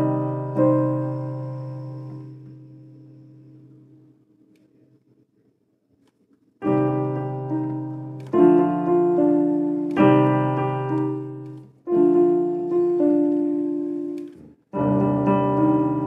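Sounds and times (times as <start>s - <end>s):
slow piano chords: 0.0s - 4.3s, 6.6s - 16.0s.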